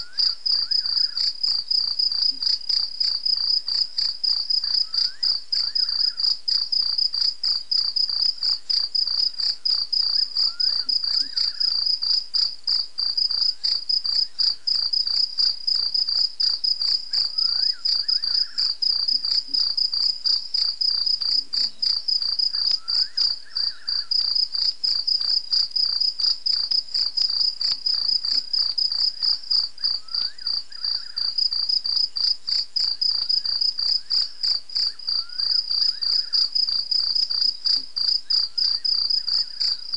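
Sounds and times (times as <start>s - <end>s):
faint insect call: 0.0s - 39.9s
night insects trilling: 0.0s - 39.9s.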